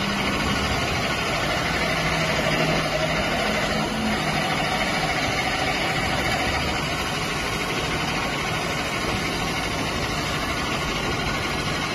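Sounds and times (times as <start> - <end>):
pipe perforating machine running: 0.0 - 11.9.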